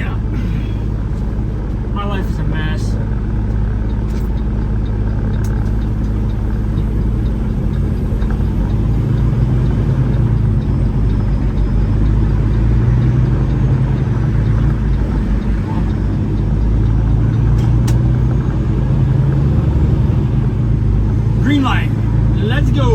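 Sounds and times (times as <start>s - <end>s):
diesel truck engine idling: 0.0s - 22.9s.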